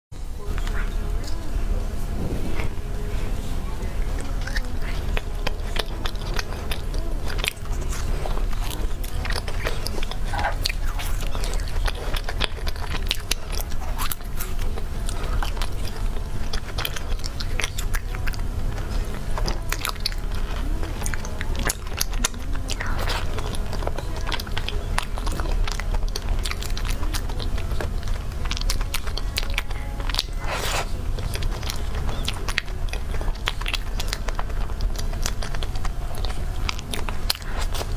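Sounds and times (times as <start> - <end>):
low hum: 0.2 - 37.9
person chewing cake: 0.2 - 37.9.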